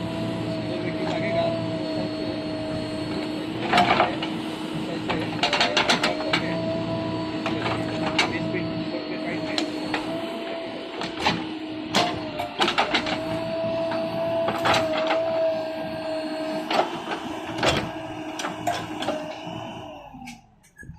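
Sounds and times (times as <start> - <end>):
bulldozer engine whine: 0.0 - 20.9.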